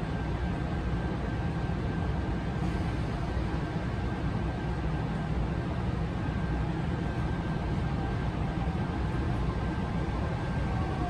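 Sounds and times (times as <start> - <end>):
monorail car rumble and hum: 0.0 - 11.0.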